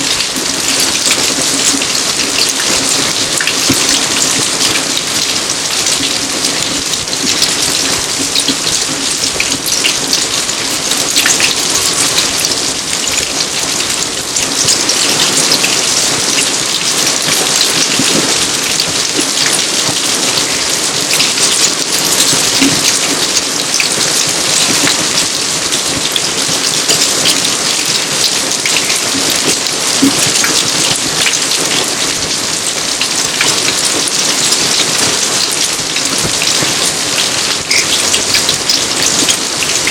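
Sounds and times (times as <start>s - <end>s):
steady rain on garden: 0.0s - 39.9s.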